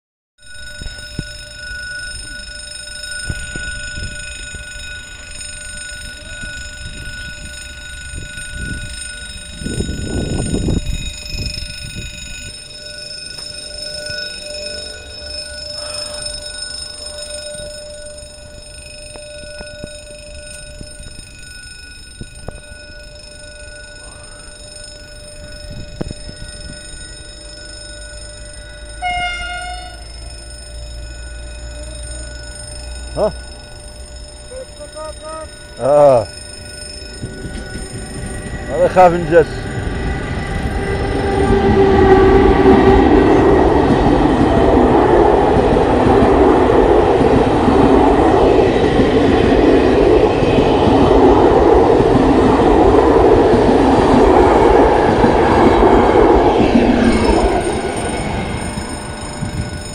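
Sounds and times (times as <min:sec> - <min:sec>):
level crossing warning bell: 0:00.4 - 0:59.9.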